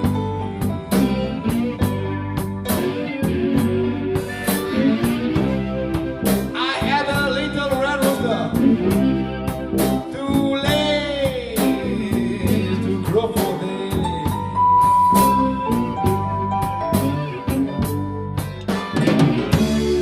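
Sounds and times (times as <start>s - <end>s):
blues band playing: 0.0s - 20.0s
lead guitar bending notes: 0.0s - 20.0s.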